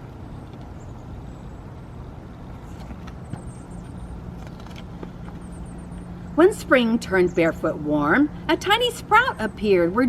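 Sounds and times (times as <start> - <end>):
low background rumble and hum: 0.0 - 10.0.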